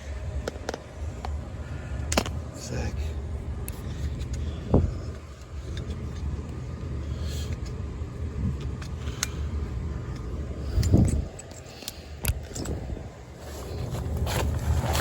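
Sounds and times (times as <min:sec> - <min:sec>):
gas furnace humming: 0:00.0 - 0:15.0.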